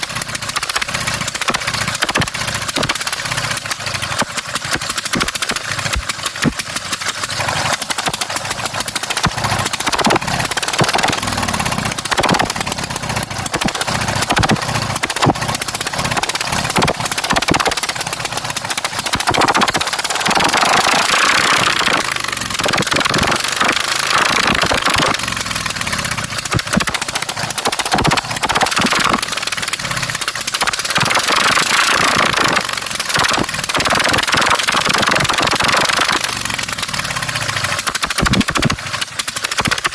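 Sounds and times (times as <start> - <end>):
lawn mower engine revving: 0.0 - 39.9.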